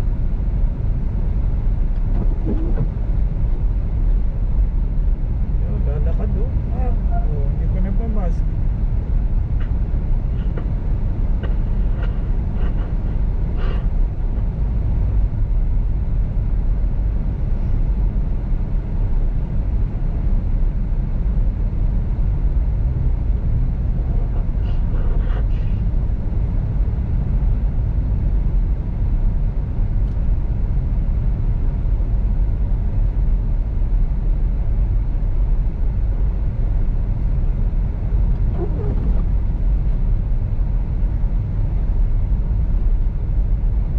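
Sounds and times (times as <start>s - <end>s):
car driving on snowy road: 0.0s - 43.9s.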